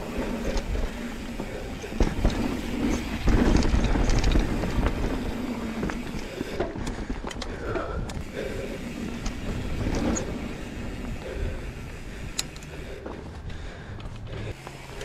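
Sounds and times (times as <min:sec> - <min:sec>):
bike rattling: 0:00.0 - 0:15.0
bike tyres on dirt: 0:00.0 - 0:15.0.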